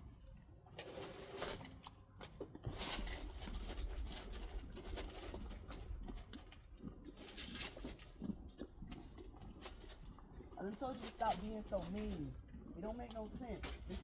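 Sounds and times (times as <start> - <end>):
horses rustling and knocking: 0.0 - 14.0.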